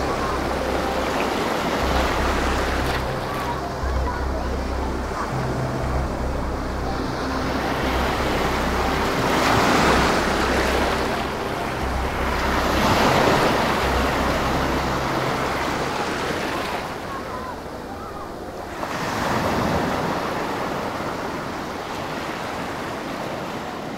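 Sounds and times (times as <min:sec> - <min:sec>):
ocean waves breaking: 0:00.0 - 0:23.9.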